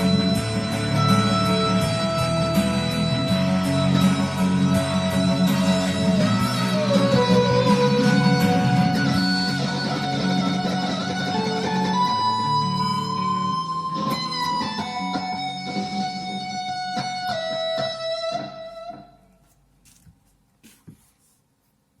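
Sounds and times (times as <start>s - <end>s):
guitar notes ringing: 0.0s - 19.3s.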